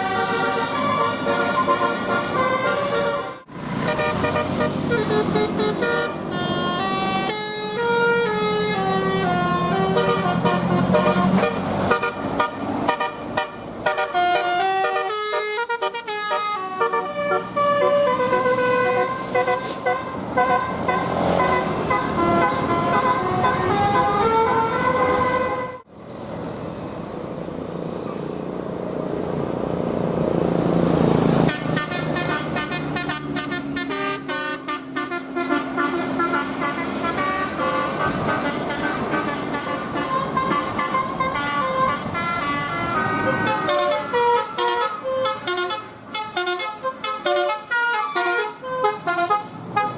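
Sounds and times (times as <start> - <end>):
multi-tone bus horns playing melodies: 0.0 - 25.9, 31.3 - 49.9
engine and road noise: 0.0 - 49.9.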